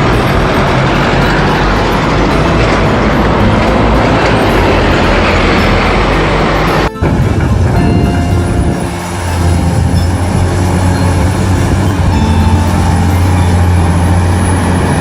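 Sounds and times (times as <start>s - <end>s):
large vehicle engine rumbling: 0.0s - 15.0s
low hum: 0.0s - 15.0s.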